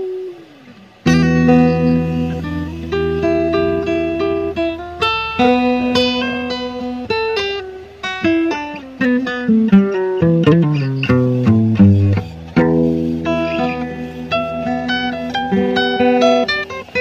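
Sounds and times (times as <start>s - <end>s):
plucked guitar melody: 0.0s - 17.0s.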